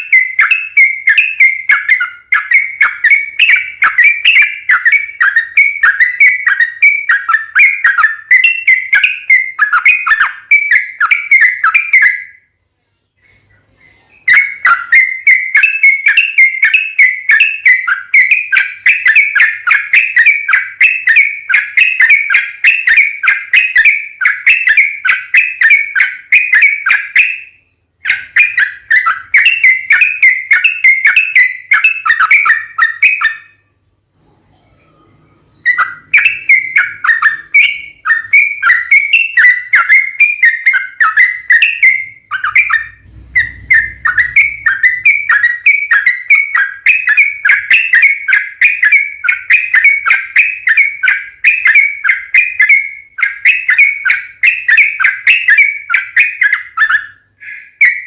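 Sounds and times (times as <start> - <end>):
bird singing whistled notes: 0.0 - 12.6, 13.2 - 33.8, 34.5 - 58.0.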